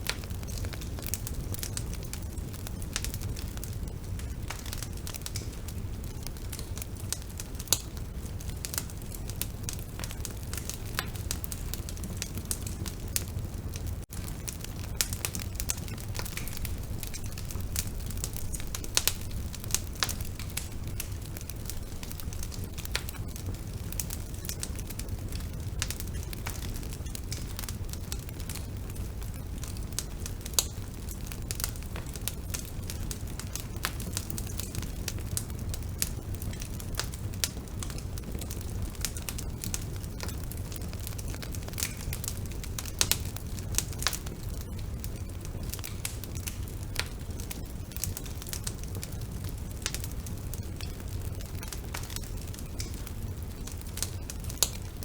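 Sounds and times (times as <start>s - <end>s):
bonfire flames rumbling: 0.0s - 55.0s
burning wood crackling and popping: 0.0s - 55.0s.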